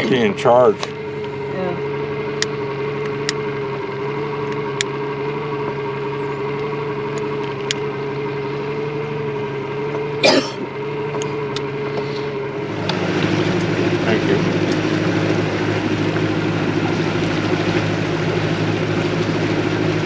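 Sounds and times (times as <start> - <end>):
outboard boat engine idling: 0.0 - 20.0.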